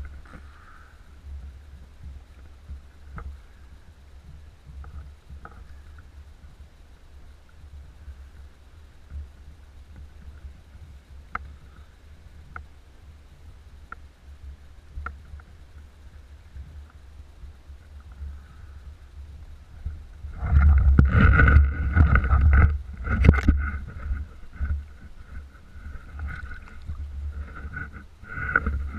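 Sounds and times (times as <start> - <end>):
low rumble: 0.0 - 28.9
water splashing against kayak: 0.0 - 28.9.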